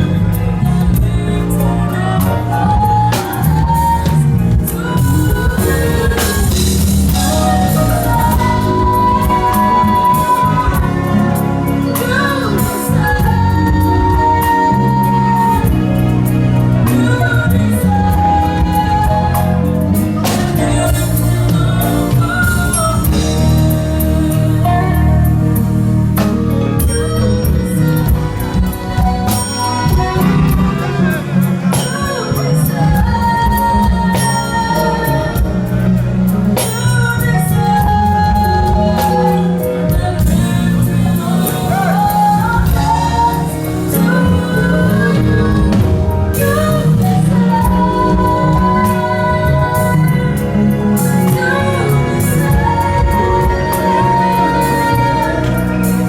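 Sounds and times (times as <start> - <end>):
bass line: 0.0 - 56.0
gospel band music: 0.0 - 56.0
keyboard chords: 0.0 - 56.0
person singing: 0.0 - 56.0.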